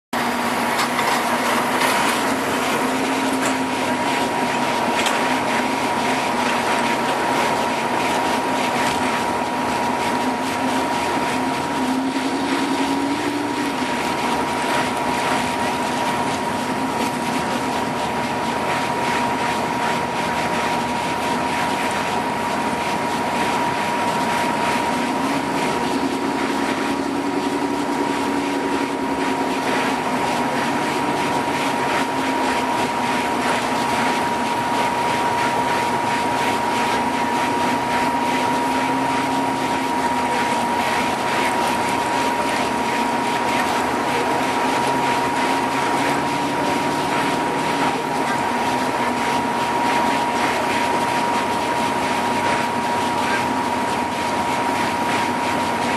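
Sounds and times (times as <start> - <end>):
high whine: 0.2 - 55.2
truck engine running hard: 0.2 - 55.6.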